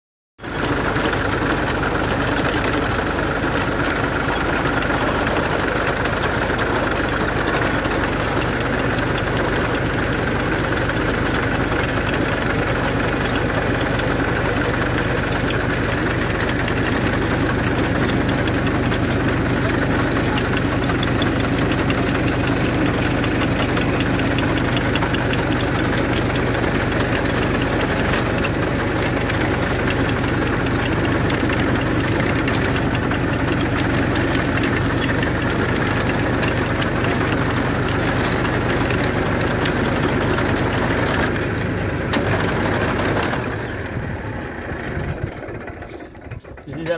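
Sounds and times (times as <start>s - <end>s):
tractor engine running: 0.4s - 46.9s.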